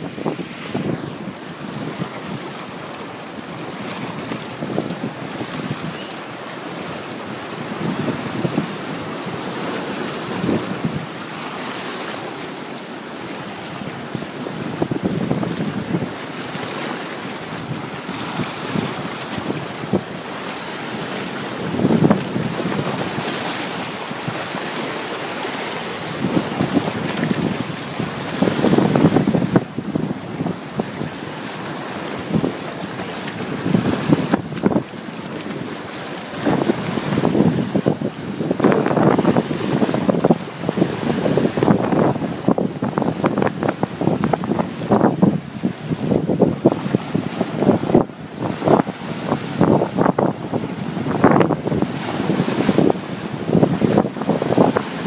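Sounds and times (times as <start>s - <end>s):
wind buffeting the microphone: 0.0s - 11.4s, 13.1s - 55.0s
ocean surf: 0.0s - 55.0s.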